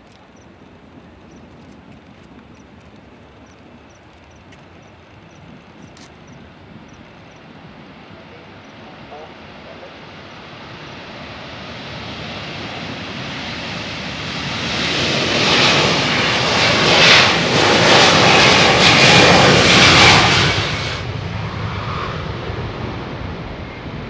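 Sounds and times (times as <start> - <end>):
jet airliner engines: 0.0 - 24.0.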